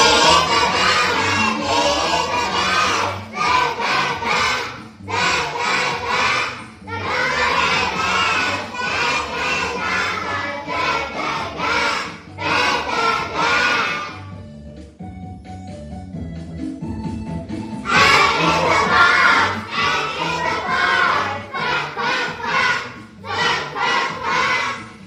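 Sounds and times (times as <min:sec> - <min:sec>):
young children singing: 0:00.0 - 0:14.3, 0:17.9 - 0:25.0
accompanying music: 0:00.0 - 0:25.0.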